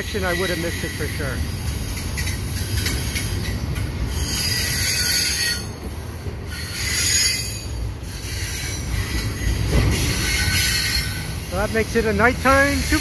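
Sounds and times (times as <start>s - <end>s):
freight cars rumbling past: 0.0s - 13.0s
wheels squealing on rails: 0.0s - 13.0s.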